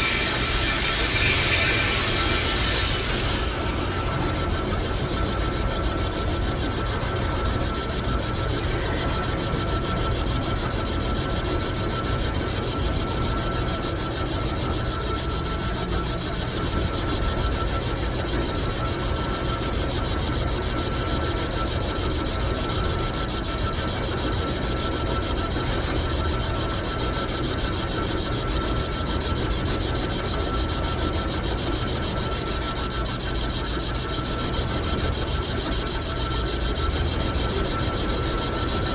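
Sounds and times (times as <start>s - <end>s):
metal lathe whining: 0.0s - 38.9s.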